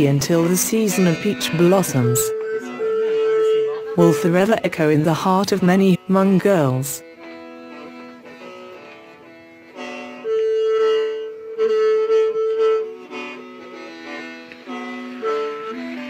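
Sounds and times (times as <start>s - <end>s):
mouth organ melody over drone: 0.0s - 16.0s.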